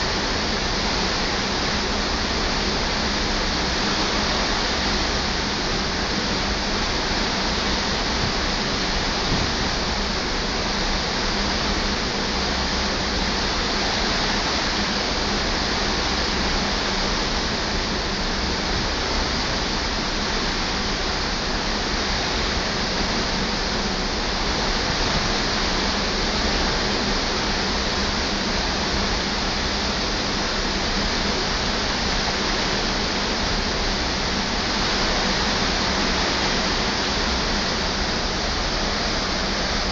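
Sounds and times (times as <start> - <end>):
sea rushing: 0.0 - 39.9.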